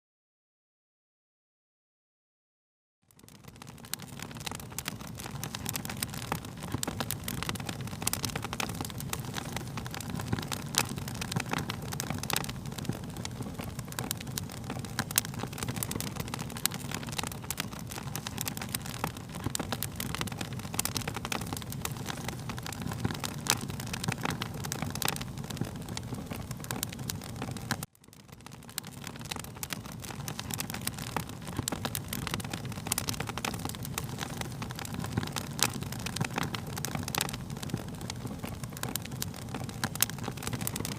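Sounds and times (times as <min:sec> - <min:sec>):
fire crackling and popping: 0:03.0 - 0:40.9.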